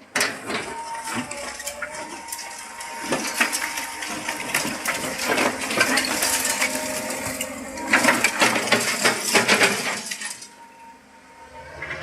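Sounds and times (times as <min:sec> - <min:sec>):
hard objects clattering and crunching: 0:00.1 - 0:10.6.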